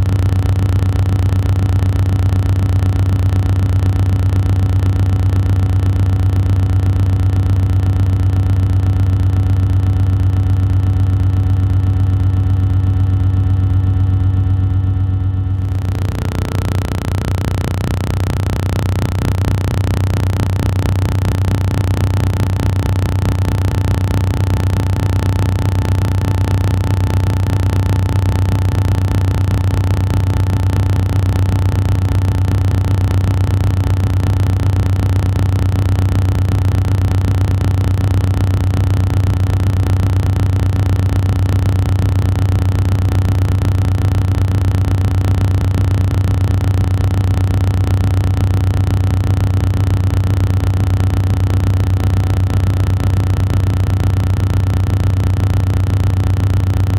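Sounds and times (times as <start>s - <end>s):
low droning hum: 0.0s - 56.9s.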